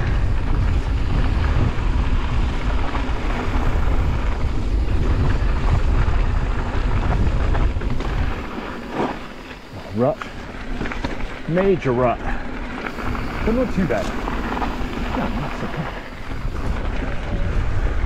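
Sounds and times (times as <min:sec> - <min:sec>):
bike clicks and rattles: 0:00.0 - 0:18.0
bike tyres rumbling on dirt: 0:00.0 - 0:18.0
wind buffeting microphone: 0:00.0 - 0:18.0.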